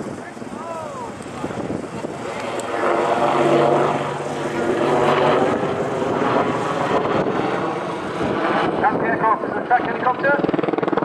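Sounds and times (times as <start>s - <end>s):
helicopter rotor blades chopping: 0.0s - 11.0s.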